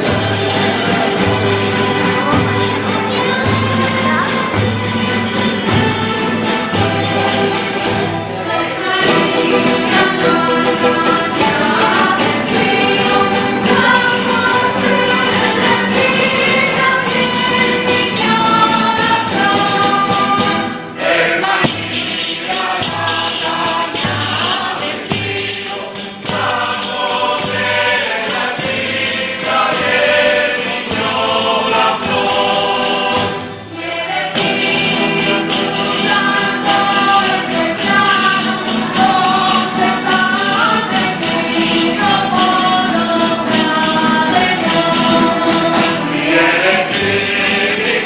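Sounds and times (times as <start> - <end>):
group singing in chorus: 0.0 - 48.0
tambourine jingling: 0.0 - 48.0.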